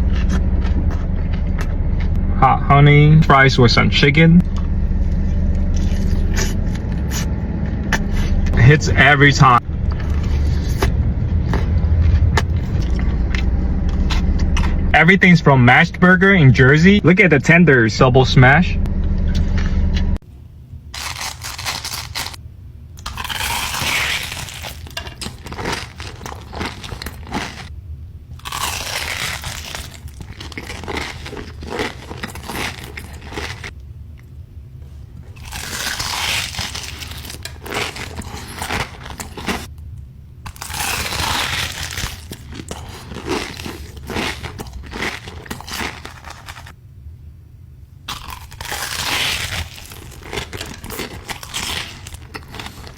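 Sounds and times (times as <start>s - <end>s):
crunching and chewing fried chicken: 0.0s - 2.4s, 4.4s - 15.0s, 20.9s - 22.4s, 23.0s - 46.8s, 48.0s - 52.9s.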